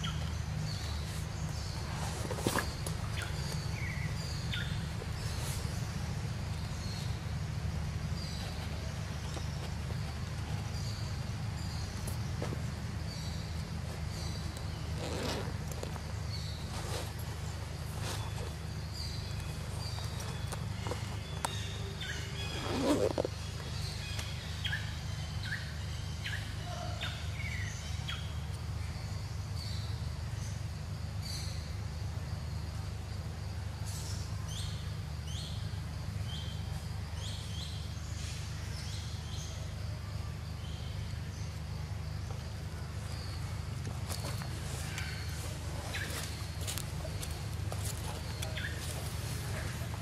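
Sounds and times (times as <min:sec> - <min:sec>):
steady low rumble: 0:00.0 - 0:26.3, 0:31.6 - 0:50.0
birds chirping: 0:00.0 - 0:50.0.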